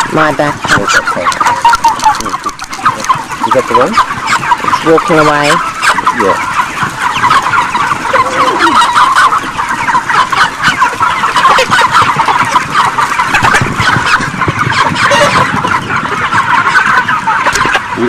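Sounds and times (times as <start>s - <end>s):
flock of chickens clucking: 0.0s - 18.0s.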